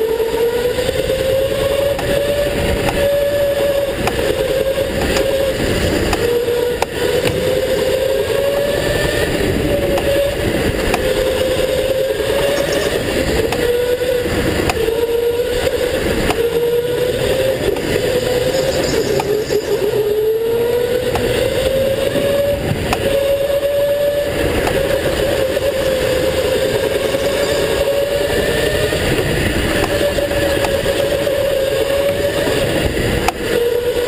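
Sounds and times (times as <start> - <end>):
go-kart drive whine: 0.0 - 34.0
rough rumble: 0.9 - 33.2.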